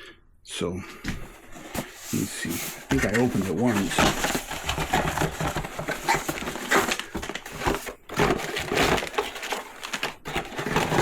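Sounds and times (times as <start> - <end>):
cardboard box rustling and scraping: 1.2 - 11.0.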